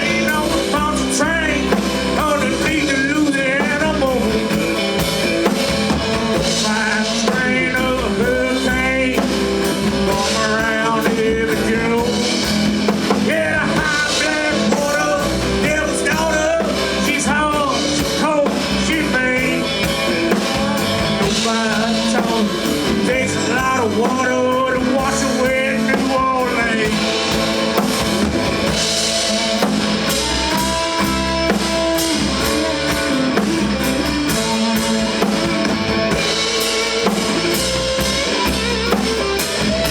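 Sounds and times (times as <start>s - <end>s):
drum kit: 0.0s - 39.9s
rock band playing: 0.0s - 39.9s.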